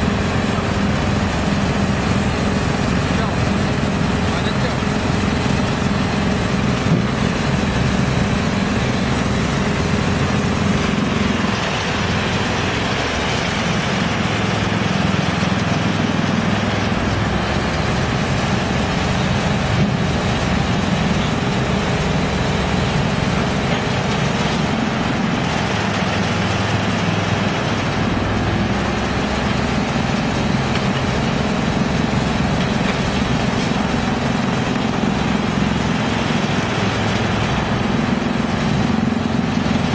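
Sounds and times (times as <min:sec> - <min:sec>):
excavator diesel engine: 0:00.0 - 0:39.9
wood chipper droning: 0:00.0 - 0:39.9.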